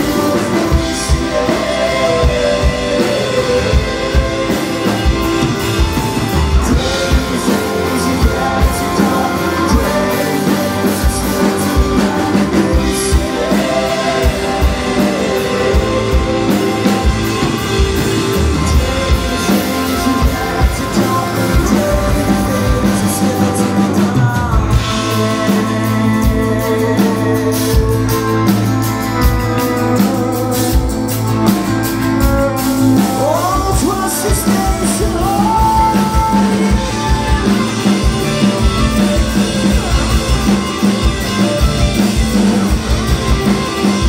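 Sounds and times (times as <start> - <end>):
bass guitar: 0.0 - 44.0
drum kit: 0.0 - 44.0
electric and acoustic guitars: 0.0 - 44.0.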